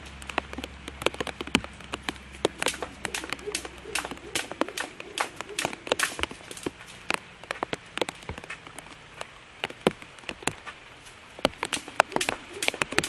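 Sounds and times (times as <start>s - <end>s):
rain hissing: 0.0s - 13.0s
raindrops ticking close by: 0.0s - 13.0s.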